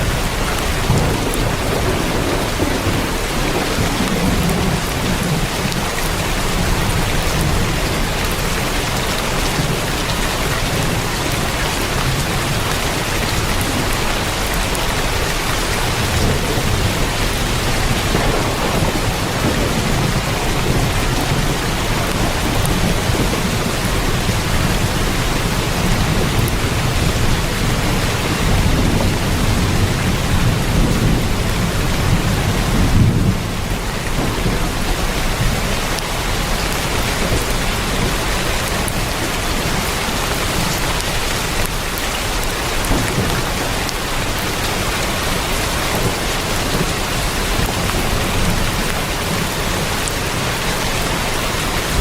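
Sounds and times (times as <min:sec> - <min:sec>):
heavy rain on a tin roof: 0:00.0 - 0:52.0
thunder rumbling: 0:00.0 - 0:52.0.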